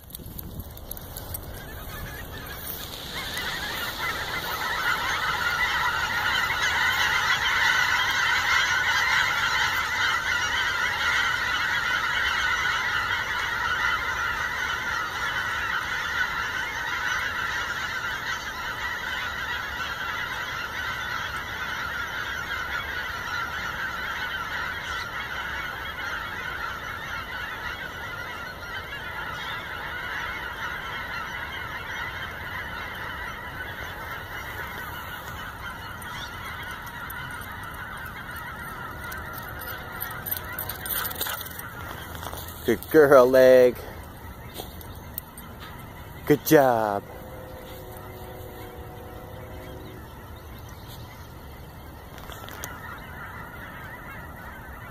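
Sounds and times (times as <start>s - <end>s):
flock of geese honking: 0.0s - 54.9s.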